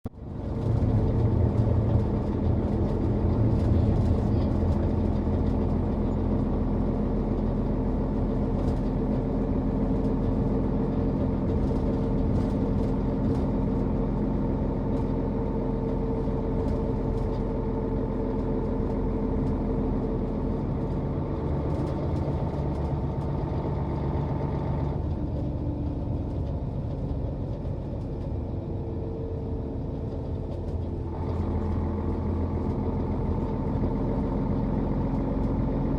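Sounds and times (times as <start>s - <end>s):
bus engine droning: 0.0s - 35.9s.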